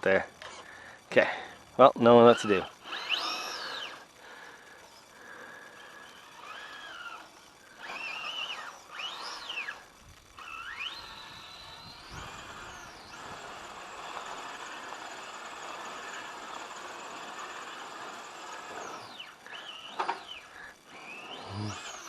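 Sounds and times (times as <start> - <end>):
electric motor whining: 0.0 - 22.0
steady hiss: 0.0 - 22.0.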